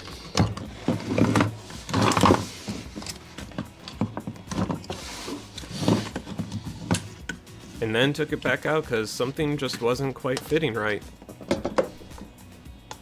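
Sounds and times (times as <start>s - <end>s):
plastic parts knocking and scraping: 0.0s - 13.0s.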